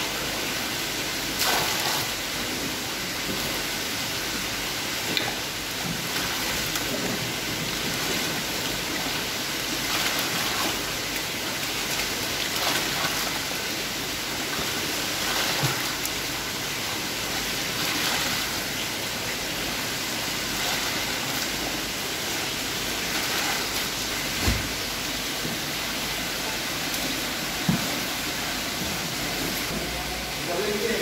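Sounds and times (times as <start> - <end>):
water splashing into tub: 0.0 - 28.4.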